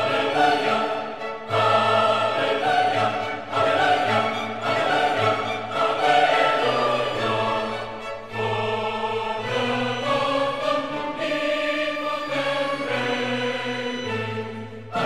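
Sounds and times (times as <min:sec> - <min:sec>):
choir with orchestra: 0:00.0 - 0:15.0.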